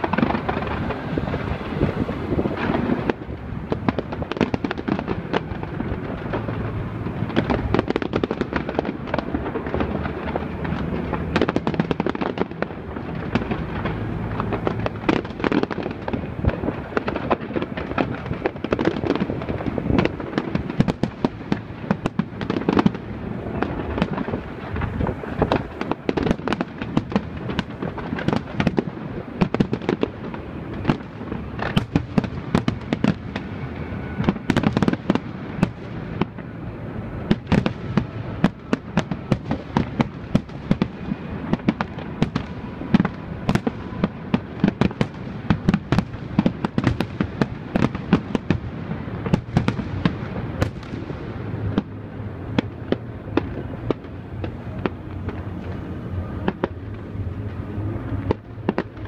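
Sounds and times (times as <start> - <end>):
fireworks bangs and cracks: 0.0 - 59.0.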